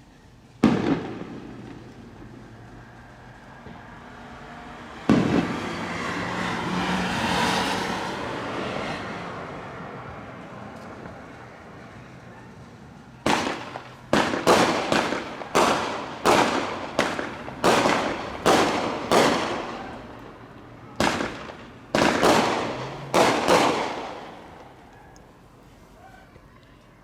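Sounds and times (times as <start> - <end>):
fireworks bangs: 0.5 - 26.3.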